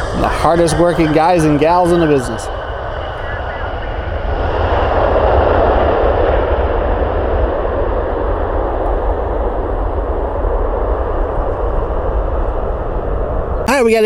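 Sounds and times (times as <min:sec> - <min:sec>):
deep rumble: 0:00.0 - 0:13.7
jet engine roar: 0:00.0 - 0:14.0.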